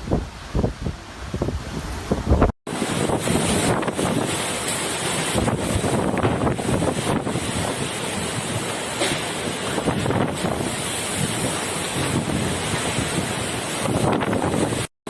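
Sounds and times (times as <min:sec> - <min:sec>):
strong storm wind buffeting microphone: 0:00.0 - 0:14.9.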